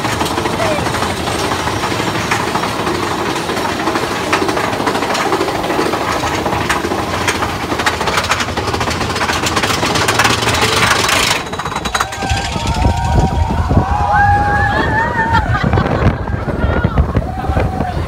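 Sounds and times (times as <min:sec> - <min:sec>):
roller coaster rumbling and rattling: 0:00.0 - 0:18.0.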